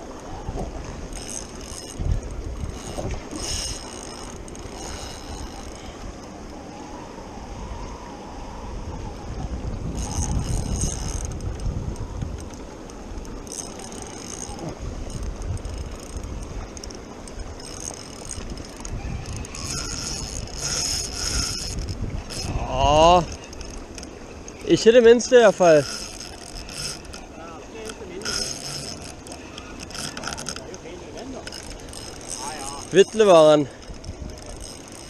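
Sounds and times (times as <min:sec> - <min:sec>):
wind on microphone: 0:00.0 - 0:30.7, 0:31.4 - 0:35.0
rushing river water: 0:00.0 - 0:35.0
fishing reel winding: 0:01.1 - 0:06.0, 0:10.0 - 0:24.7, 0:25.4 - 0:30.8, 0:31.4 - 0:35.0.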